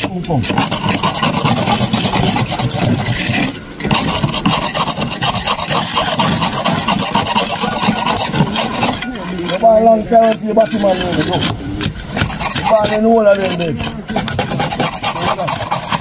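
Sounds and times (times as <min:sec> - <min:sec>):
rapid rasping scraping strokes: 0:00.0 - 0:16.0.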